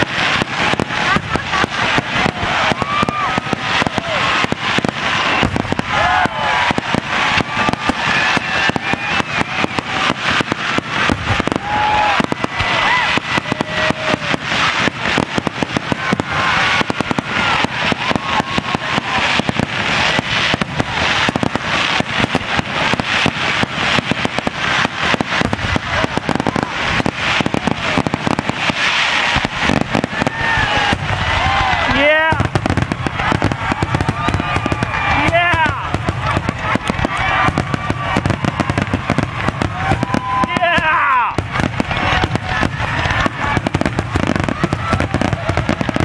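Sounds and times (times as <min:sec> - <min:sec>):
fireworks bursting: 0:00.0 - 0:46.0.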